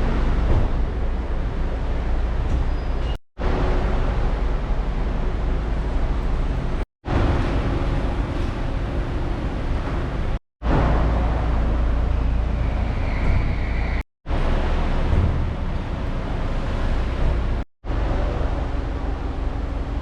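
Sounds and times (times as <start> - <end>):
car engine rumble: 0.0 - 2.8, 3.4 - 20.0
street traffic: 0.0 - 20.0.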